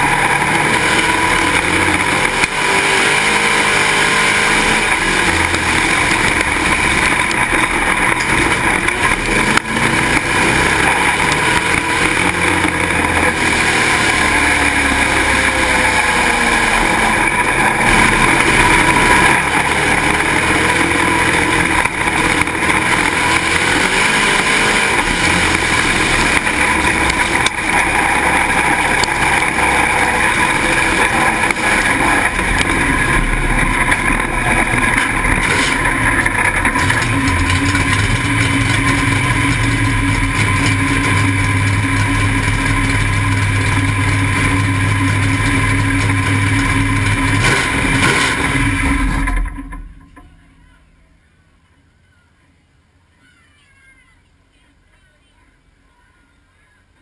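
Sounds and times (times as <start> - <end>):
race car engine revving: 0.0 - 50.0.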